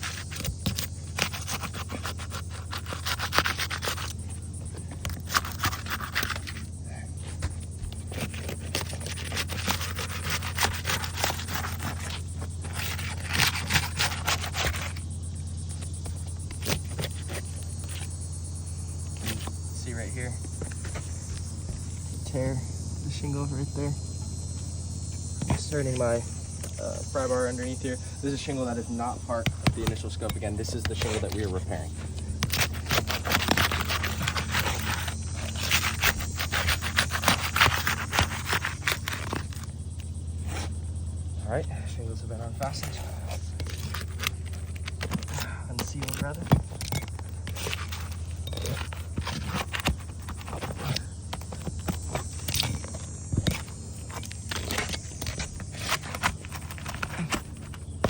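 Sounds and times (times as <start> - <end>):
shingles scraping and crackling: 0.0 - 22.2, 25.4 - 40.8, 42.4 - 58.0
steady low hum: 0.0 - 58.0.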